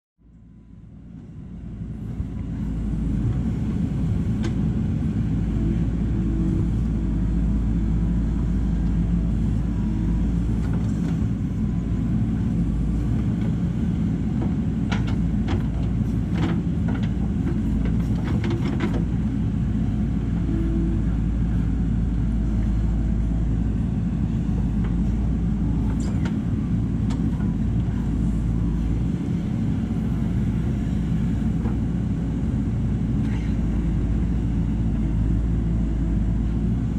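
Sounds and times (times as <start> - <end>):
diesel engine running: 0.2 - 36.9.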